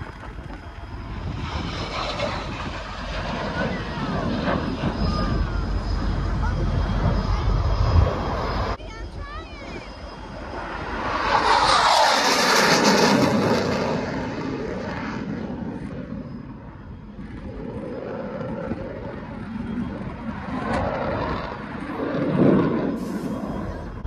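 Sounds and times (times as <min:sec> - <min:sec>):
military jet flying past: 0:00.0 - 0:24.0.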